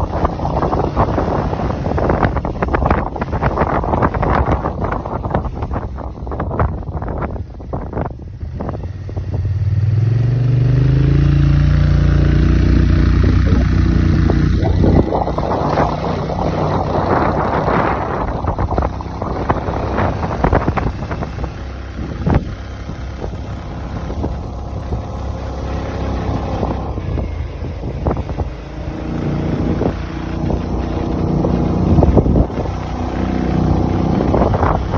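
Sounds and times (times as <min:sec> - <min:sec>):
scooter engine accelerating: 0:00.0 - 0:34.9
wind buffeting microphone: 0:00.0 - 0:34.9.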